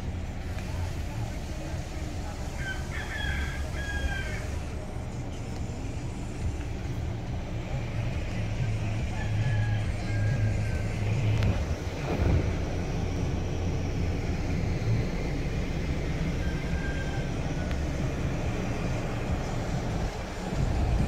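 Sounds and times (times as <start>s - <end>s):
vehicle low rumble: 0.0s - 21.0s.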